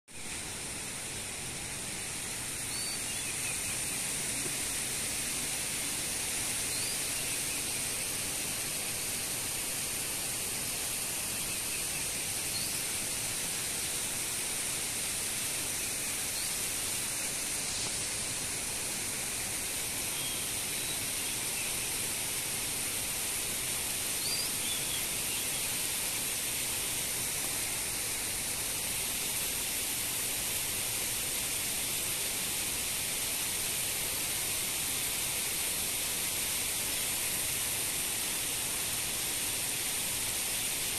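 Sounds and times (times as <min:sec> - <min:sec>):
steady rushing hiss: 0:00.1 - 0:40.9.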